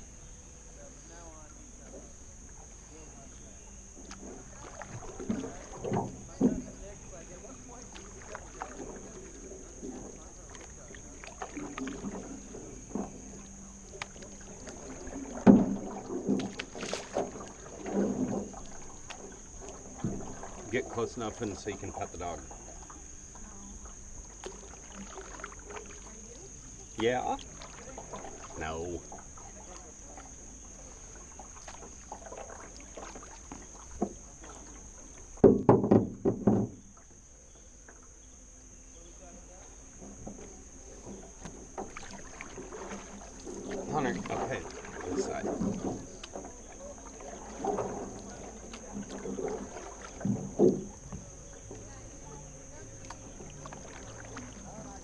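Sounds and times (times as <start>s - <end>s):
paddle splashing in water: 1.1s - 38.4s, 39.0s - 55.0s.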